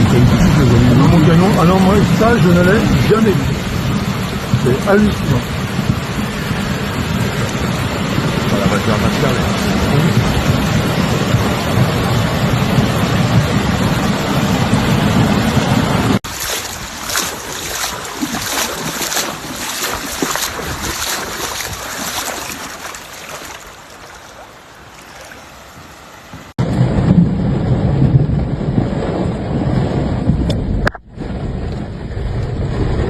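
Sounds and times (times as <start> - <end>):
wind buffeting microphone: 0.0 - 24.8, 25.5 - 33.0
rushing floodwater: 0.0 - 26.6.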